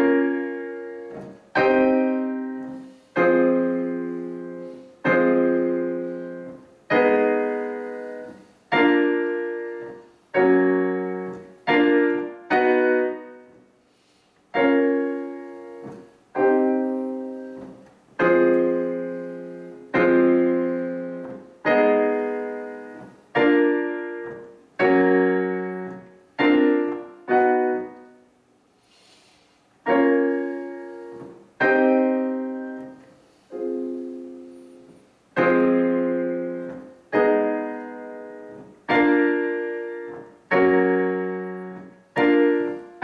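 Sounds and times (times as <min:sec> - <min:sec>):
digital piano chords: 0:00.0 - 0:28.7, 0:29.7 - 0:43.0.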